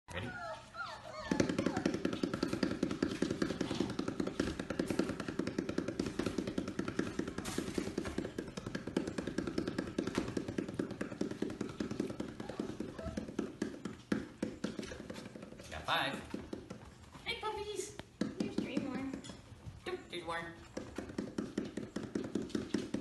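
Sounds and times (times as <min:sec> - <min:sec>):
hands drumming on rubber ball: 0:01.2 - 0:23.0.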